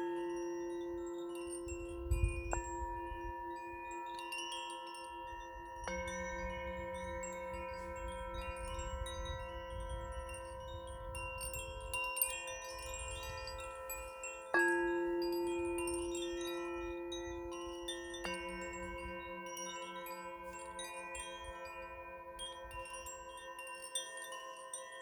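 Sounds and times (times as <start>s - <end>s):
metal chimes ringing: 0.0s - 25.0s.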